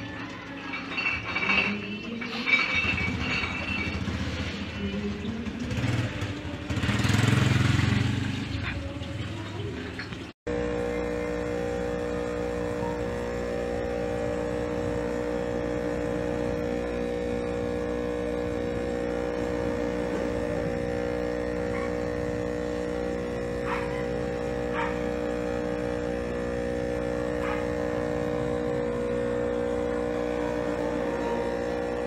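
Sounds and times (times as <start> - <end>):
aquarium air pump humming: 0.0 - 32.0.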